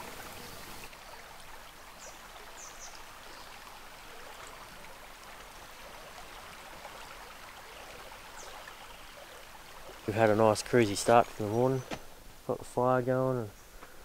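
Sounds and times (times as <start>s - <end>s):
river water rushing: 0.0s - 12.5s.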